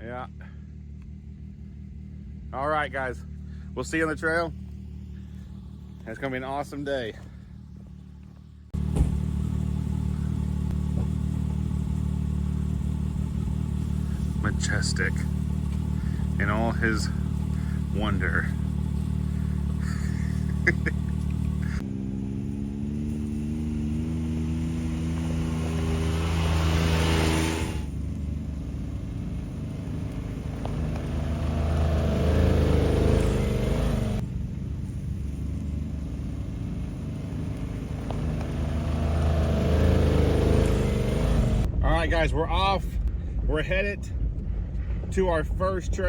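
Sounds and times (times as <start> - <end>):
engine pulling away: 0.0 - 42.3
steady engine hum: 0.0 - 46.0
vehicles driving rumble: 0.0 - 46.0.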